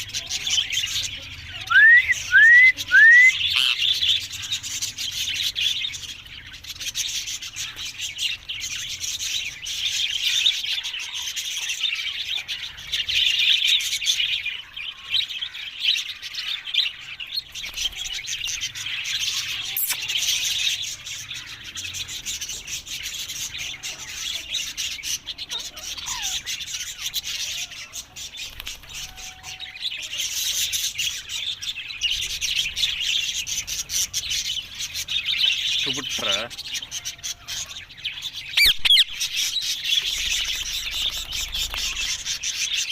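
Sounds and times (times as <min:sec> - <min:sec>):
parakeets chattering and screeching: 0:00.0 - 0:42.9.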